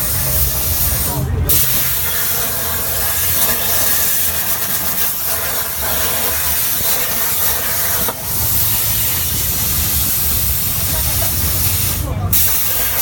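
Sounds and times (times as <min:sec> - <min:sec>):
low machine rumble: 0:00.0 - 0:12.4
plasma torch hissing: 0:00.0 - 0:13.0.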